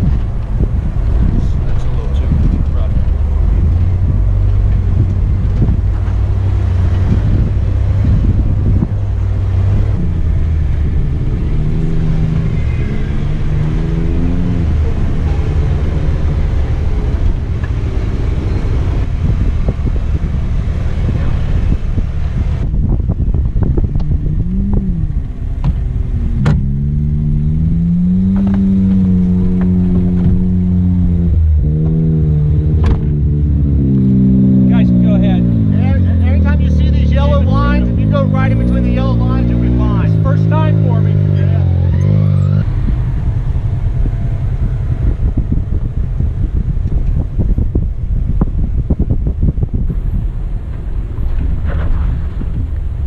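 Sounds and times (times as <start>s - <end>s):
engine revving: 1.1s - 23.0s, 23.7s - 47.8s.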